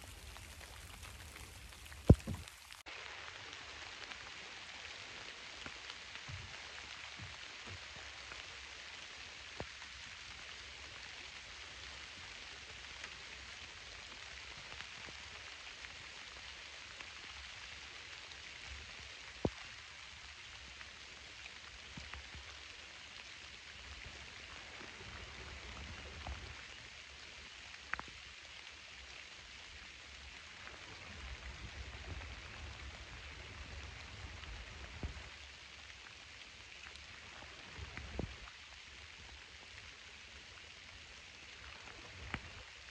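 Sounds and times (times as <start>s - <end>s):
rain falling on pond: 0.0s - 42.9s.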